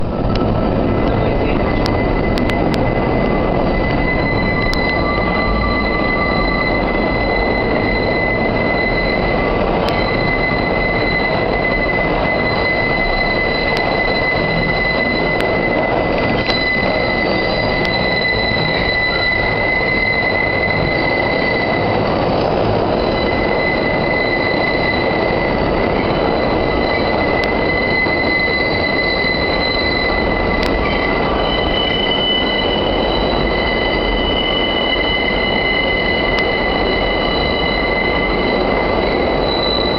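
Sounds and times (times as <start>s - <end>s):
moving train rumble: 0.0s - 39.9s
train wheels squealing: 0.0s - 39.9s.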